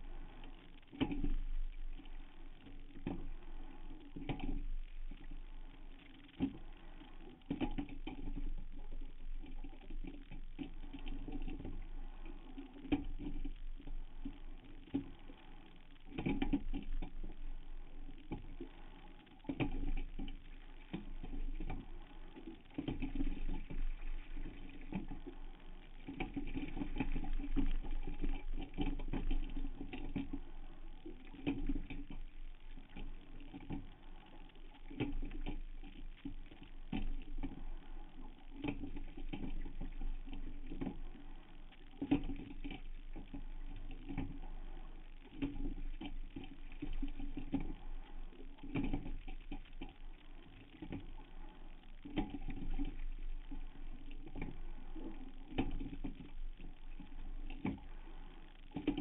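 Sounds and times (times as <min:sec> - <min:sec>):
oar and rigging noise with knocks: 0:00.0 - 0:59.0
steady low hum: 0:00.0 - 0:59.0.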